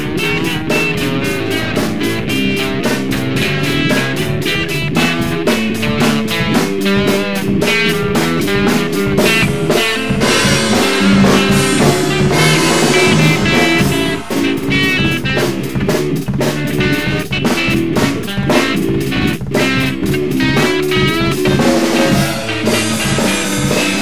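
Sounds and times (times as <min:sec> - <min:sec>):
blues guitar: 0:00.0 - 0:24.0
drum kit beat: 0:00.0 - 0:24.0.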